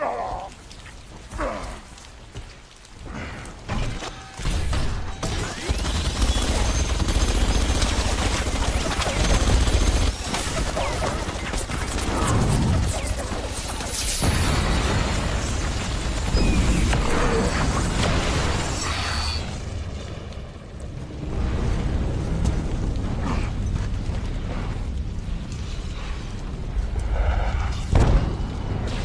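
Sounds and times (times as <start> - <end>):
crashes and crackles: 0.0 - 29.0.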